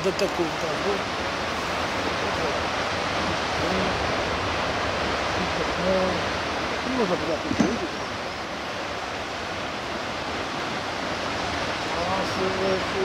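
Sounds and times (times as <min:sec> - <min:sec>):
sea surf breaking on boulders: 0:00.0 - 0:13.0.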